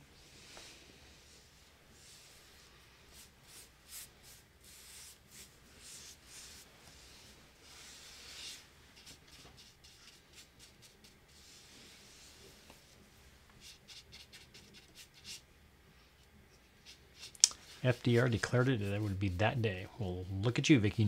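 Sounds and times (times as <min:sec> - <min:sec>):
paintbrush strokes on wood: 0:00.4 - 0:15.4, 0:16.6 - 0:21.0.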